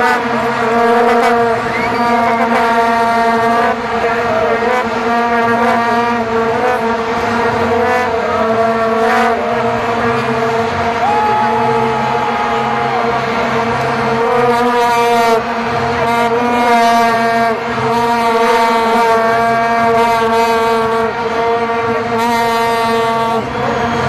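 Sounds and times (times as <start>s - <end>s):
higher-pitched horn: 0.0s - 24.0s
single horns wavering: 0.0s - 24.0s
vuvuzela drone: 0.0s - 24.0s.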